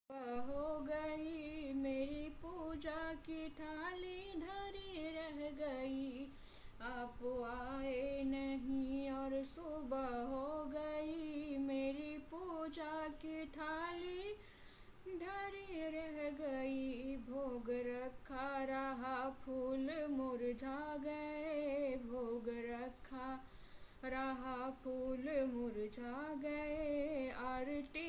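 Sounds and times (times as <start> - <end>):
woman singing unaccompanied: 0.1 - 28.0.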